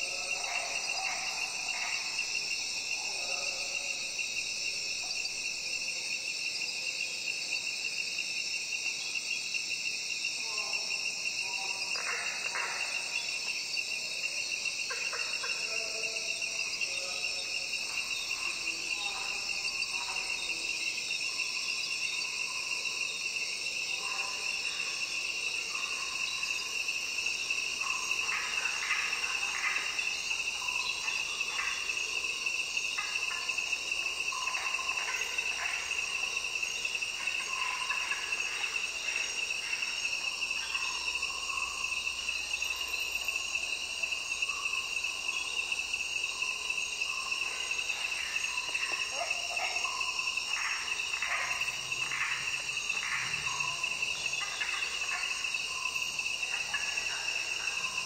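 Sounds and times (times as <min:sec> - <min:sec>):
crickets trilling: 0:00.0 - 0:58.0
short insect calls: 0:00.0 - 0:58.0.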